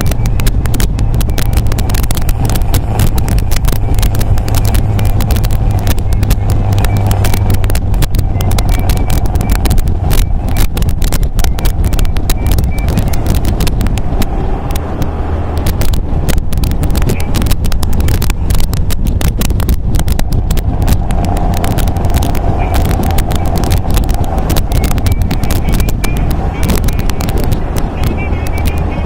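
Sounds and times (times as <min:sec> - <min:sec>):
car engine running: 0:00.0 - 0:29.0
wind buffeting microphone: 0:00.0 - 0:29.0.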